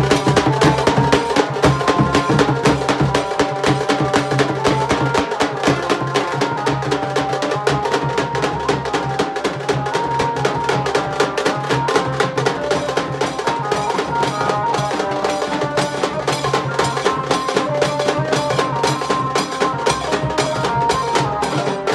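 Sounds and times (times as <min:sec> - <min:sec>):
drums beating fast rhythm: 0:00.0 - 0:21.9.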